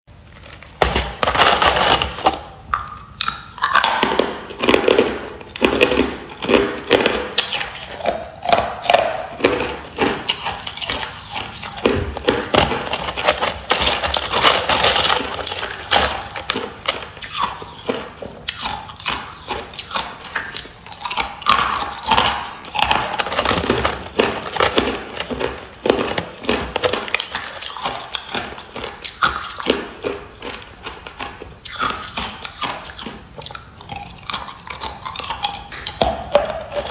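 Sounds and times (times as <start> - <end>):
ice crunched between teeth: 0.3 - 36.9.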